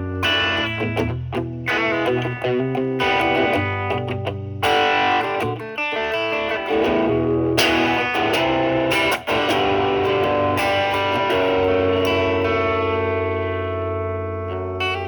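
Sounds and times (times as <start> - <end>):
overdriven electric guitar: 0.0 - 15.0.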